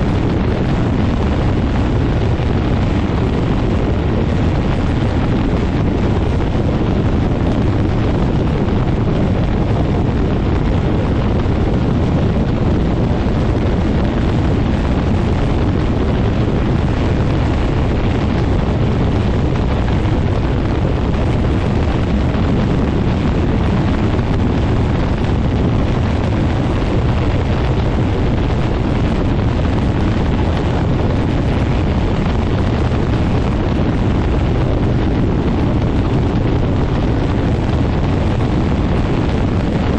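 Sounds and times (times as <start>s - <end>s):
propeller engine running: 0.0s - 39.9s
wind buffeting on microphone: 0.0s - 39.9s.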